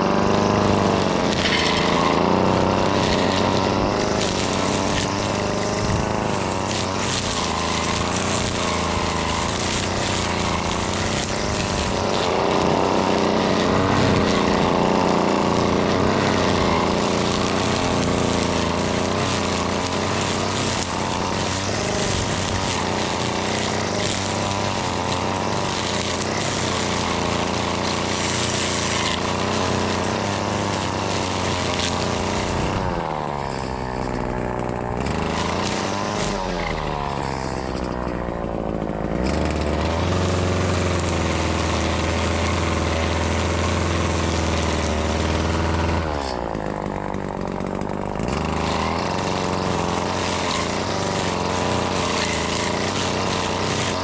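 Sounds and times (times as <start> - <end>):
string trimmer engine revving: 0.0 - 54.0.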